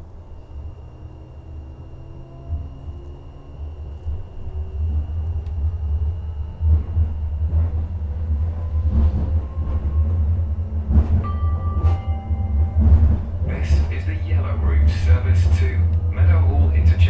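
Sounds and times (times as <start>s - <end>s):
steady high tones: 0.0s - 8.6s, 10.1s - 17.0s
train interior low rumble: 0.0s - 17.0s.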